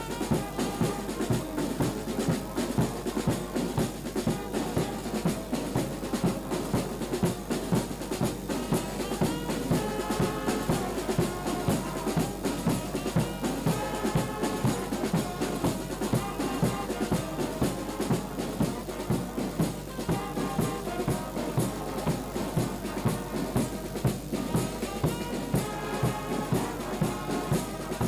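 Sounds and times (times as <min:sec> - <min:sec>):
brass band music: 0:00.0 - 0:28.0.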